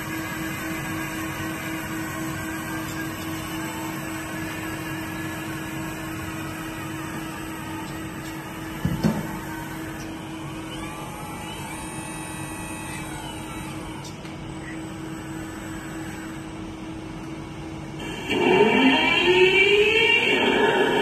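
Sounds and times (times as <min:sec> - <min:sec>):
electric motor hum with whine: 0:00.0 - 0:21.0.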